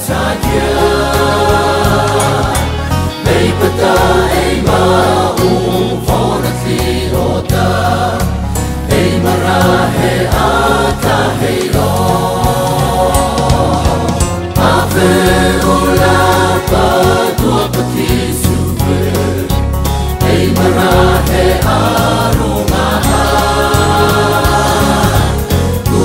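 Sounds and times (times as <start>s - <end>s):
instrumental backing with bass line: 0.0s - 26.0s
voices singing a hymn-like tune: 0.0s - 26.0s.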